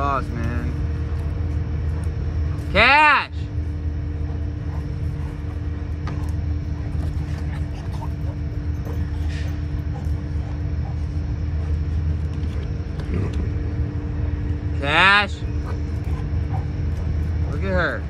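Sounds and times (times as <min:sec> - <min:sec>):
low mechanical rumble and hum: 0:00.0 - 0:18.0.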